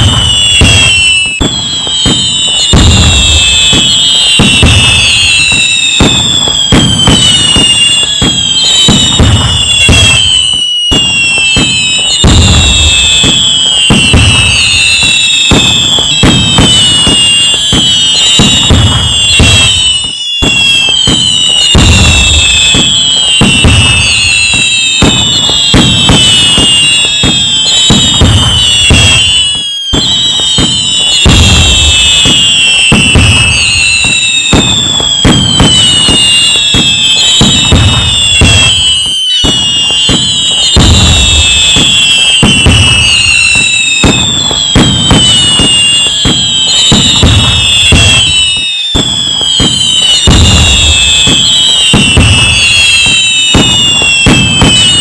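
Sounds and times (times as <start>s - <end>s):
fireworks bangs and crackling: 0.0s - 55.0s
whistling fireworks shells: 0.0s - 55.0s.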